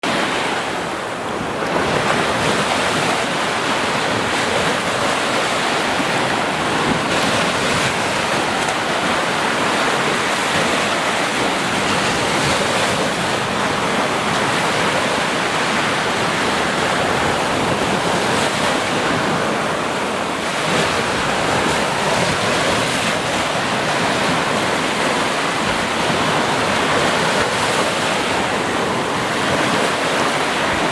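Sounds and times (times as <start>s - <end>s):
flowing water rushing: 0.0s - 30.9s.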